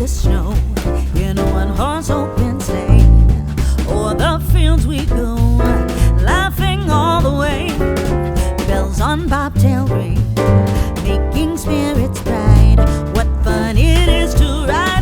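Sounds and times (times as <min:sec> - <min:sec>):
song with vocals over a beat: 0:00.0 - 0:15.0.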